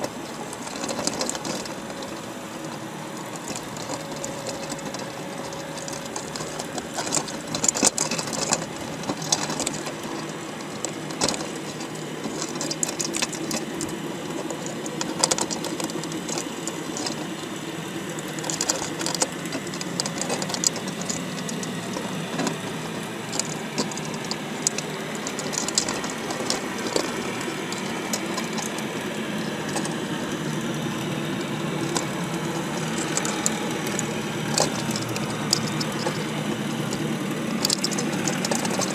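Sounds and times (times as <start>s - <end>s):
crabs clicking and scraping: 0.0s - 38.9s.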